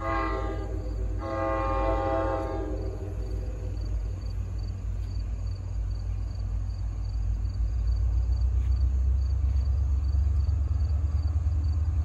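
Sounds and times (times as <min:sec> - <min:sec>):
diesel train rumble: 0:00.0 - 0:12.0.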